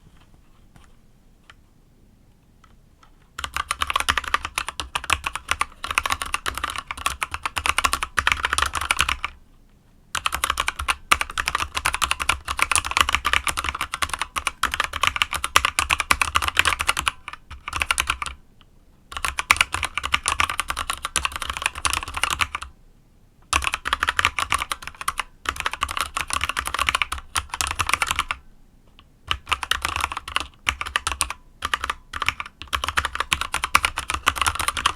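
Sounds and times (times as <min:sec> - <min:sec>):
mechanical keyboard typing: 0:03.4 - 0:09.4, 0:10.1 - 0:18.4, 0:19.1 - 0:22.7, 0:23.5 - 0:28.4, 0:29.3 - 0:34.9.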